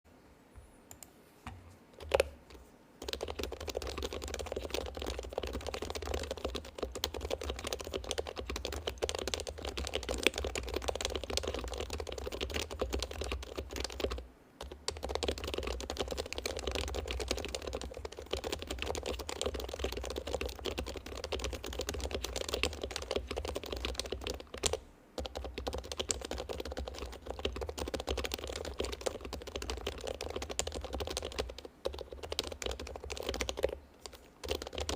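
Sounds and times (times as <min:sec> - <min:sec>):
mechanical keyboard typing: 0:02.0 - 0:02.4, 0:03.0 - 0:34.9.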